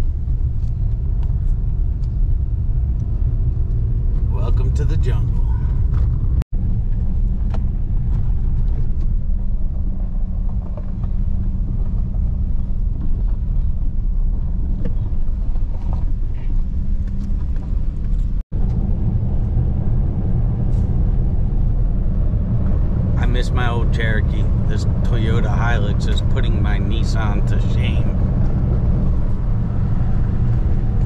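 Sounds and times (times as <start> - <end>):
truck engine and tyres rumbling: 0.0 - 31.0.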